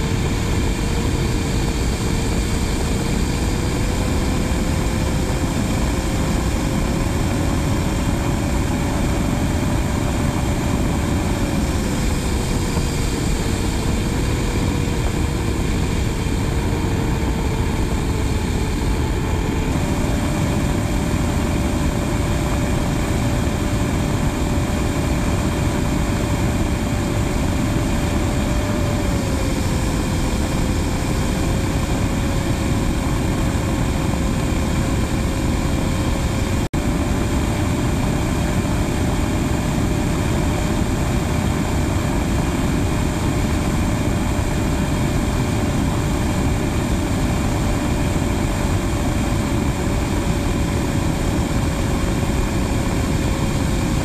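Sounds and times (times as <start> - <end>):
jet engine noise: 0.0 - 54.0
steady high whine: 0.0 - 54.0.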